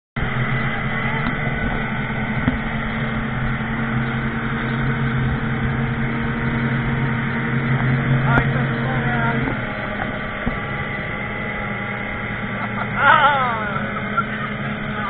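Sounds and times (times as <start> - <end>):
outboard motor droning: 0.2 - 15.0
wake water rushing: 0.2 - 15.0
wind: 0.2 - 15.0.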